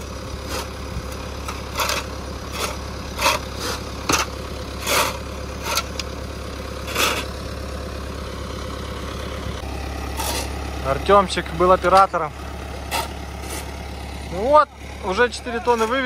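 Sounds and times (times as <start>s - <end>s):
heavy vehicle engine idling: 0.0s - 16.0s.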